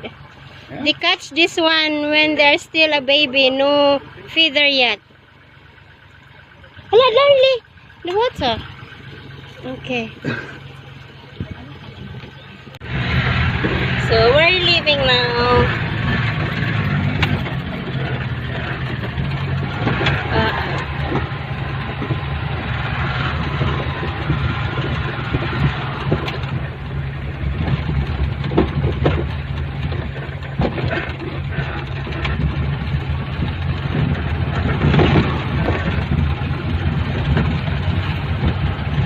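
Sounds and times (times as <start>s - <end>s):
road noise: 0.0s - 39.0s
vehicle engine running: 0.0s - 39.0s.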